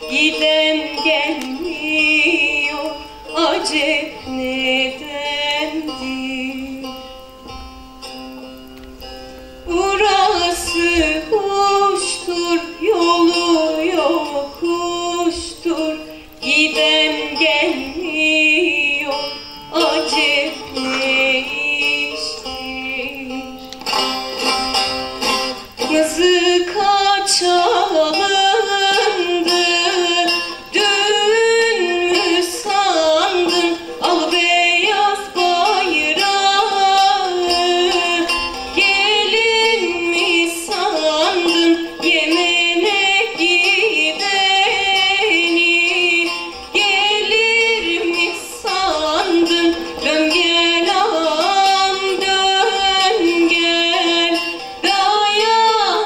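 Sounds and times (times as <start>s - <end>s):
woman singing a folk song: 0.0s - 56.0s.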